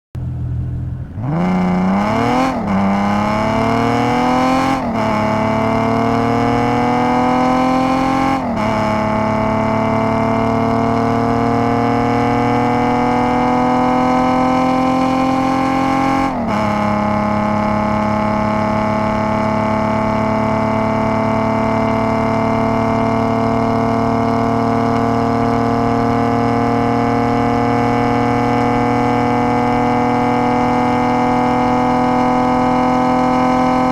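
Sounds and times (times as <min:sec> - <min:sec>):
car engine accelerating through gears: 0:00.2 - 0:33.9.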